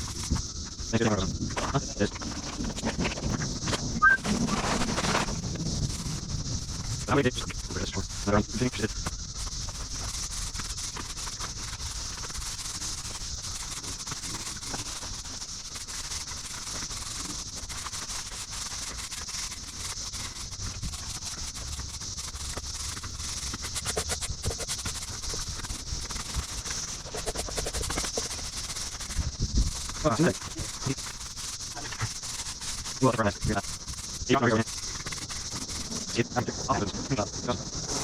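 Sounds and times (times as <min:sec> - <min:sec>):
broom sweeping on paving stones: 0:00.0 - 0:38.0
steady high hiss: 0:00.0 - 0:38.0.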